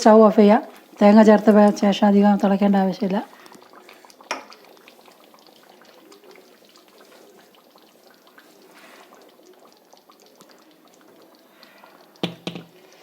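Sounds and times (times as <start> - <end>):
curry bubbling in pot: 0.0 - 13.0.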